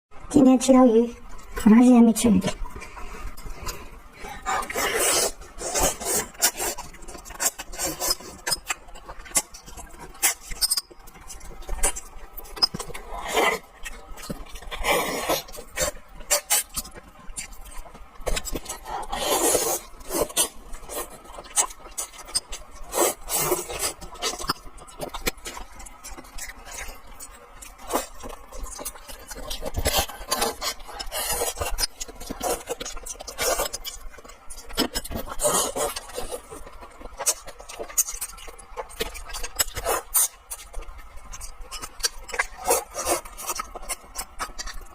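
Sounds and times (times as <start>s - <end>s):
eating noises: 1.2s - 44.9s.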